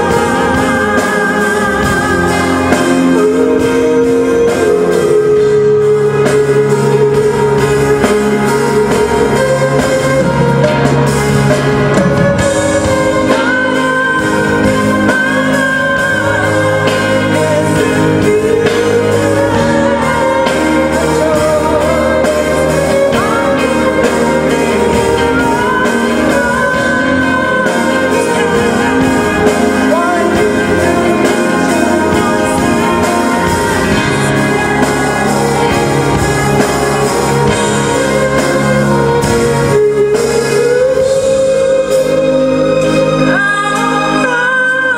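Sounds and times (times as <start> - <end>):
live band playing: 0.0 - 44.9
person singing: 0.0 - 44.9.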